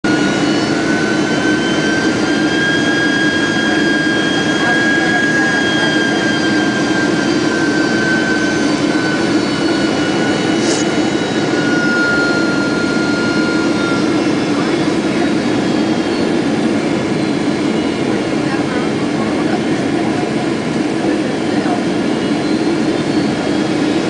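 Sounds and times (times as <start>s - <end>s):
jet engine cabin roar: 0.0s - 24.0s
high steady whine: 0.1s - 24.0s.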